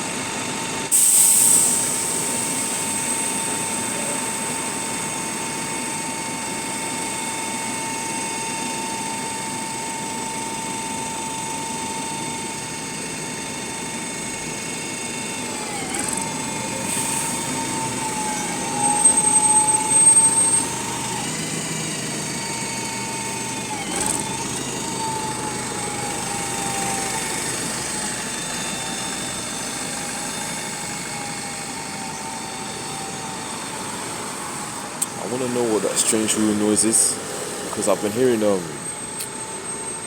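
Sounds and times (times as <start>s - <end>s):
bus running noise: 0.0s - 40.0s
bus gearbox whine: 1.4s - 40.0s.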